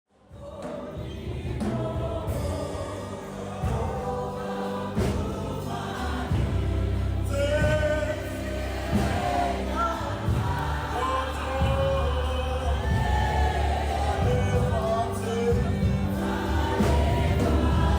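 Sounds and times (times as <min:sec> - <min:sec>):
choir singing gospel: 0:00.2 - 0:17.9
drum hits: 0:00.4 - 0:17.9
sustained low instrumental notes: 0:02.8 - 0:17.9.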